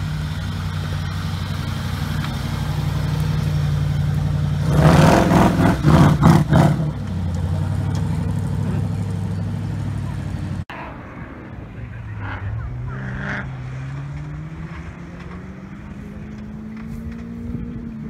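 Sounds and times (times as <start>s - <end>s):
off-road vehicle engine revving: 0.0s - 10.7s, 11.7s - 18.0s.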